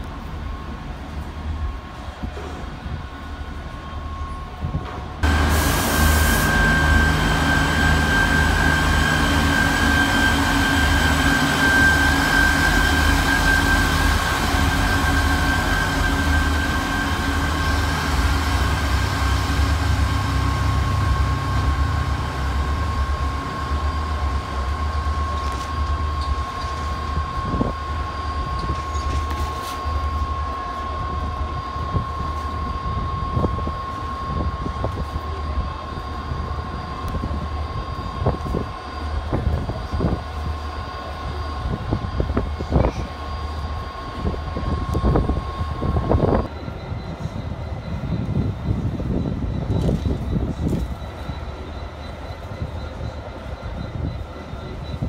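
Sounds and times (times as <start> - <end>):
diesel train rumble: 0.0 - 55.0
high even whine: 5.2 - 55.0.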